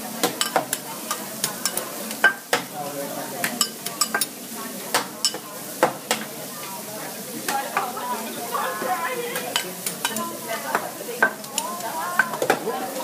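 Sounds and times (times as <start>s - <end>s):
meat sizzling on griddle: 0.0s - 13.0s.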